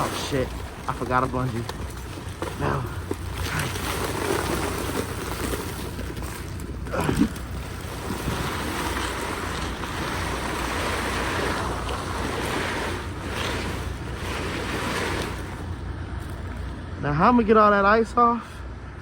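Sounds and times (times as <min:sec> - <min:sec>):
constant low rumble: 0:00.0 - 0:19.0.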